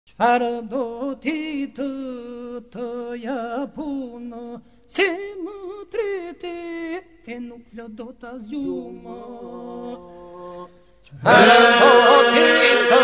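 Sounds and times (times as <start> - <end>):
lead voice singing: 0.2 - 10.3, 11.2 - 13.0.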